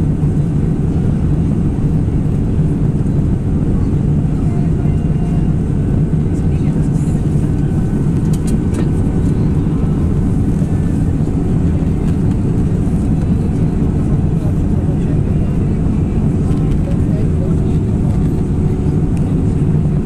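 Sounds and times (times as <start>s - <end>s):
aircraft cabin engine roar: 0.0s - 20.0s.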